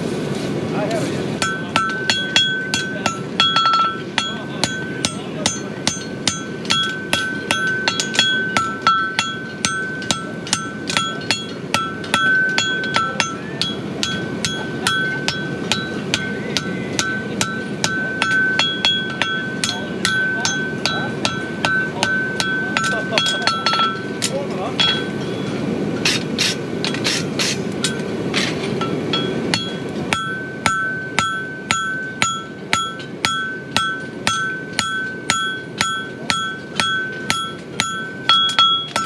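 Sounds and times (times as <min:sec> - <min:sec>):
anvil ringing high: 0:01.4 - 0:25.4, 0:28.8 - 0:39.0
hammer striking metal on anvil: 0:01.4 - 0:39.0.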